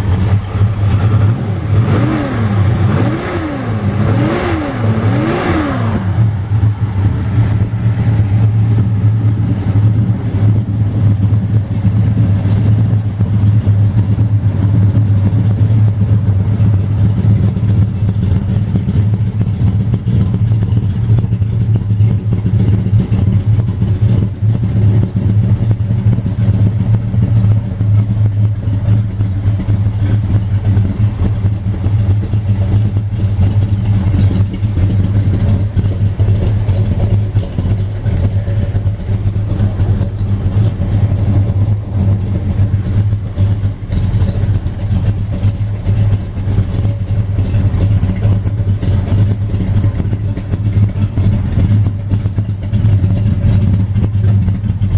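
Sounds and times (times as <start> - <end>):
car engine running steadily: 0.0 - 54.9.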